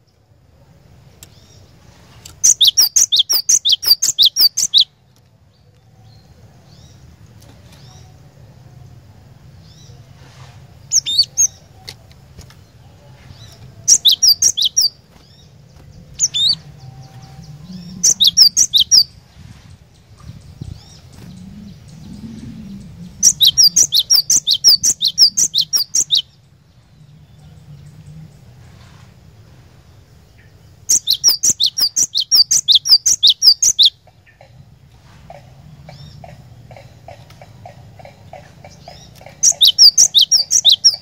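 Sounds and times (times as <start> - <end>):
small bird singing: 0.0 - 34.7, 35.3 - 41.0.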